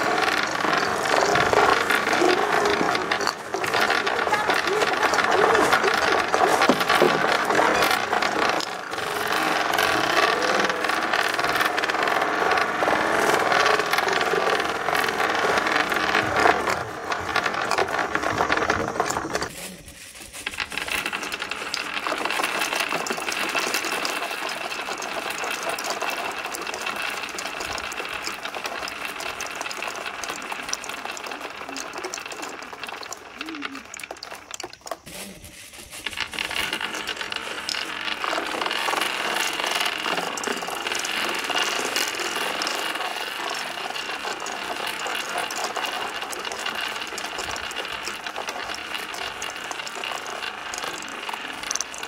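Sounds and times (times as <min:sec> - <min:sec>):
marbles rattling down wooden ramp: 0:00.0 - 0:52.0.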